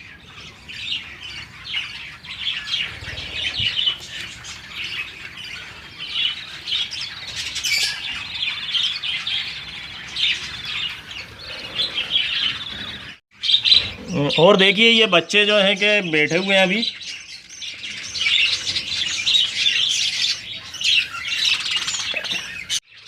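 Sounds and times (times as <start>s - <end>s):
budgerigars chattering: 0.0s - 22.8s.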